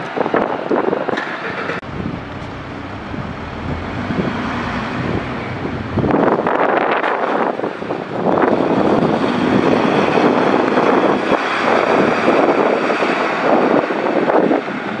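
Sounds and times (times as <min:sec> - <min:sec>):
diesel bus engine pulling away: 0:00.0 - 0:15.0
wind buffeting microphone: 0:00.0 - 0:15.0.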